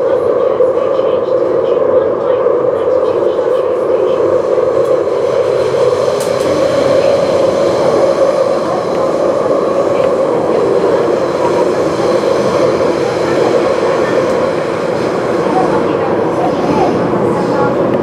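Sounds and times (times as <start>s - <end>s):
electric train rumbling from inside: 0.0s - 18.0s.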